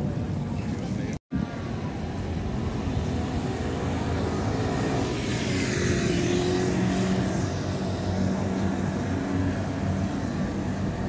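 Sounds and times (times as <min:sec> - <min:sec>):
street rumble: 0:00.0 - 0:11.0
moped passing: 0:01.7 - 0:11.0.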